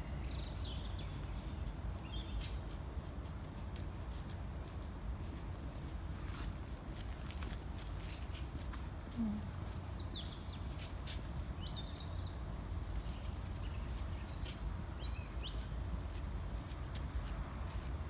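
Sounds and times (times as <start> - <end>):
small songbirds chirping: 0.0 - 3.0, 4.8 - 8.5, 9.5 - 17.4.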